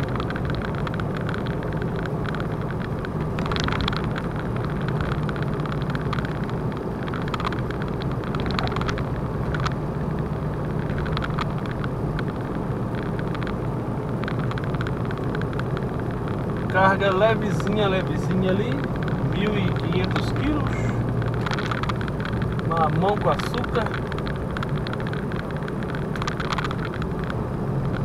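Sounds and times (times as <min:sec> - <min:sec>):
clicks and rattles: 0:00.0 - 0:28.0
engine and road rumble: 0:00.0 - 0:28.0.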